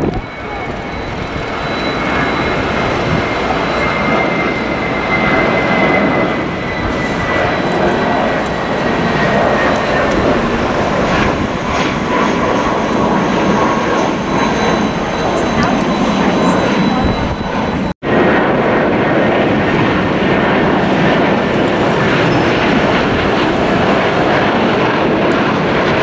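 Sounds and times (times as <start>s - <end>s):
high engine whine: 0.0s - 26.0s
jet engines roaring: 0.0s - 26.0s.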